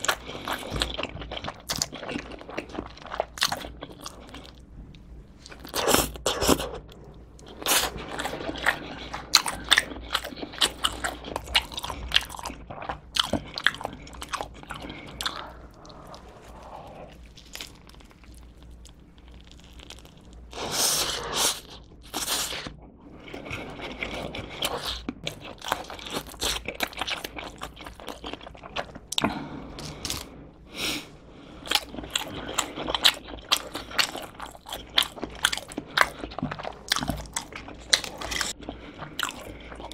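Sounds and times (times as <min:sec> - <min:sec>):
person chewing pizza: 0:00.0 - 0:39.9.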